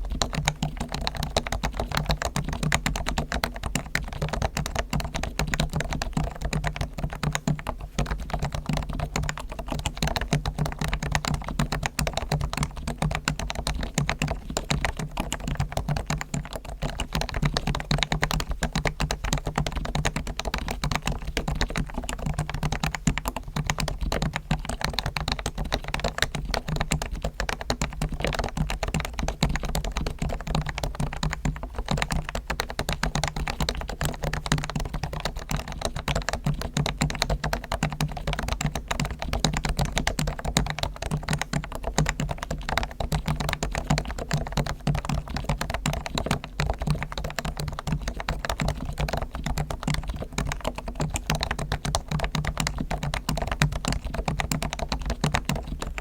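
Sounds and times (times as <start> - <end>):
fast keyboard typing: 0.0 - 56.0.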